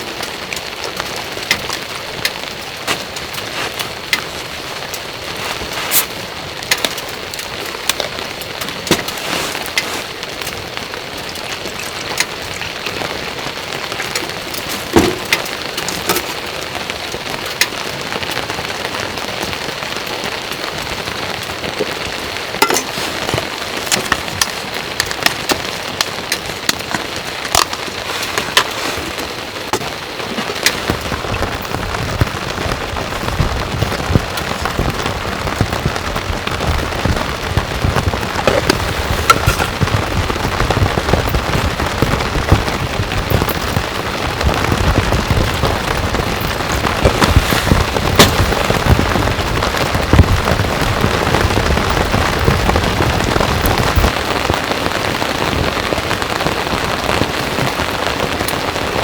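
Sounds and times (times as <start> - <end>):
heavy rain falling: 0.0 - 59.0
large raindrops tapping: 0.0 - 59.0.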